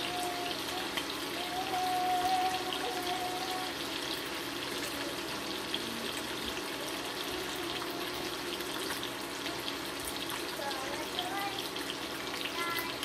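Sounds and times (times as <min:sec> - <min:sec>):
bacon sizzling in a pan: 0:00.0 - 0:13.0.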